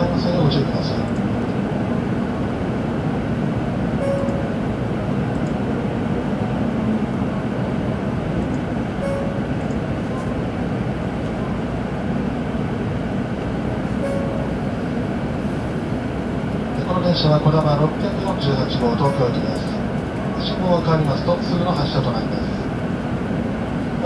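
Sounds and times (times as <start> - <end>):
train car rumble and hiss: 0.0 - 24.0.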